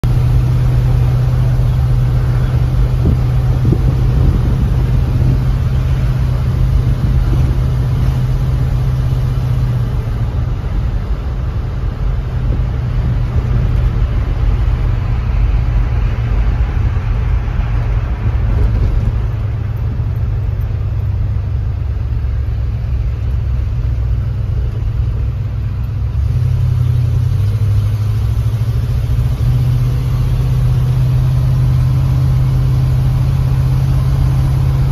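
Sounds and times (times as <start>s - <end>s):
road noise: 0.0s - 34.9s
truck engine running: 0.0s - 34.9s.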